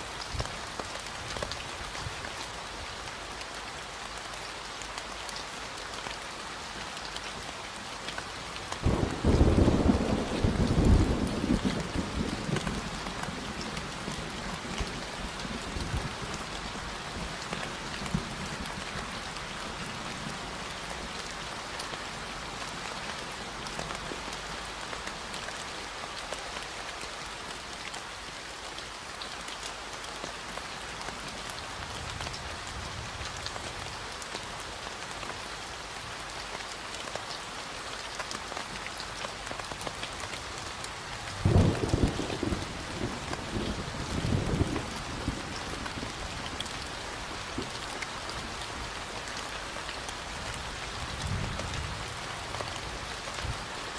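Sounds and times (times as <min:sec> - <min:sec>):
rain falling on a surface: 0:00.0 - 0:53.9.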